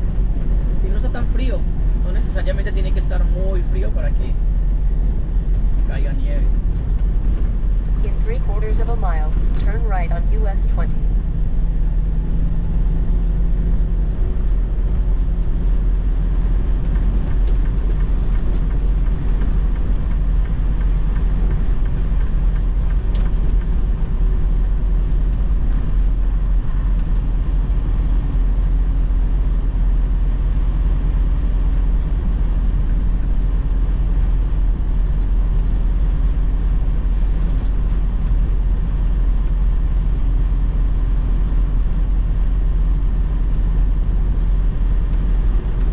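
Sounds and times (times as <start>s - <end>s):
truck engine and road rumble: 0.0s - 45.9s.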